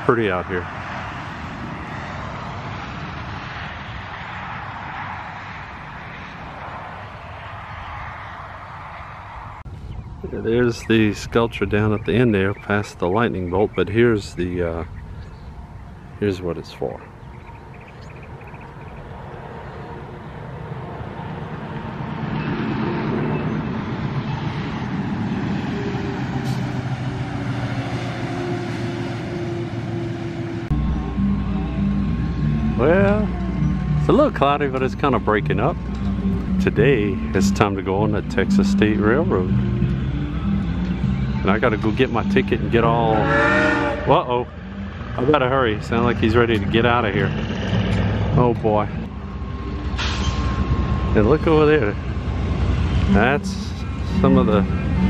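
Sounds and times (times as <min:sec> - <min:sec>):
passing vehicle rushing: 0:00.0 - 0:55.0.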